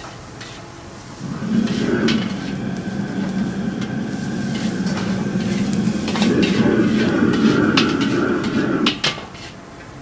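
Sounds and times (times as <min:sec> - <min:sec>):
wok sizzling: 0:00.0 - 0:09.5
gas burner roar: 0:00.0 - 0:10.0.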